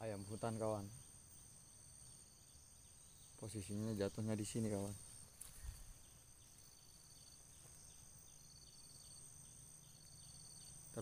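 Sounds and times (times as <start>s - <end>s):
insect buzzing: 0.0s - 11.0s
pulsed insect trills: 0.0s - 11.0s.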